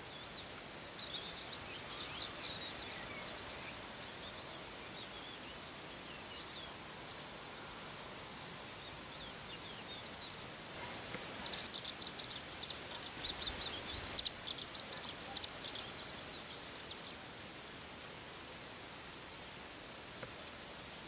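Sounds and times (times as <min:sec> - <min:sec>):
songbird chirping: 0:00.0 - 0:17.5.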